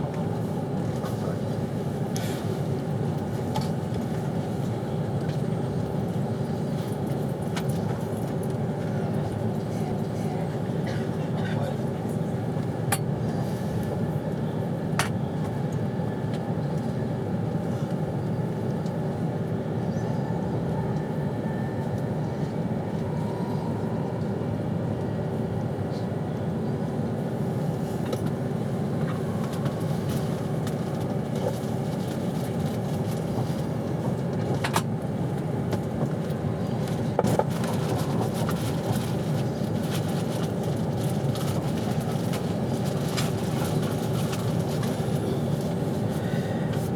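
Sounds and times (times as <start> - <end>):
train running rumble: 0.0 - 46.9.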